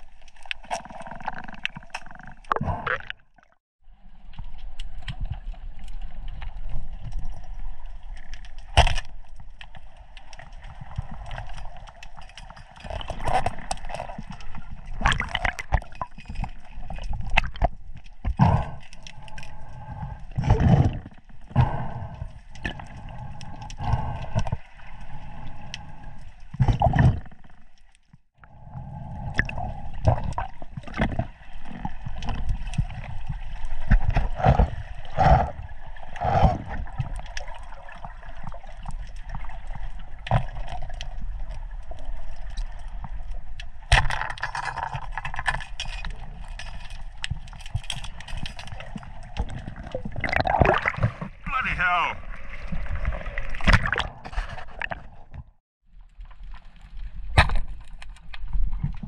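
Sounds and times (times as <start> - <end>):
sea water gurgling and sloshing: 0.0 - 59.0.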